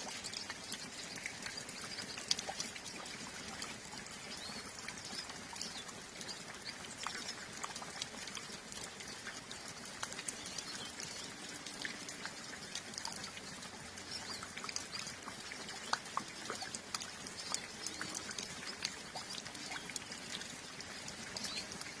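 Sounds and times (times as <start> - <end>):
birds singing high chirps: 0.0 - 7.4, 9.2 - 22.0
steady rain: 0.0 - 22.0
water drips pattering: 0.0 - 22.0.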